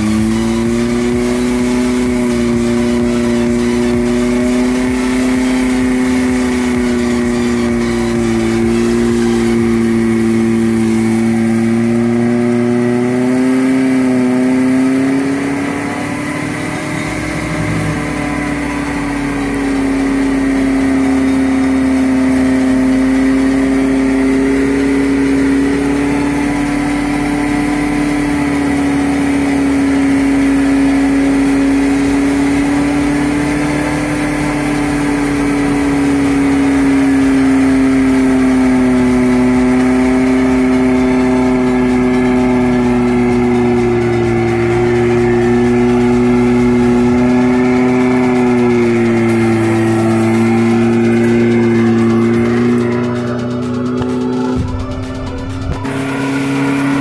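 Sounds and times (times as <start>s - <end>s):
electric winch whining: 0.0s - 57.0s.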